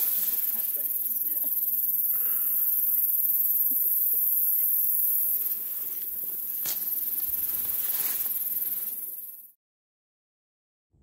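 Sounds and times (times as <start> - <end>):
high-pitched insect chorus: 0.0 - 9.5.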